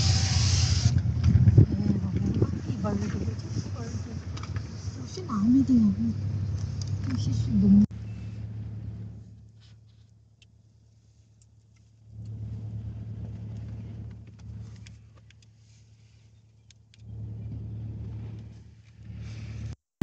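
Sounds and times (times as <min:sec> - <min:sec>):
car engine hum inside cabin: 0:00.0 - 0:19.8.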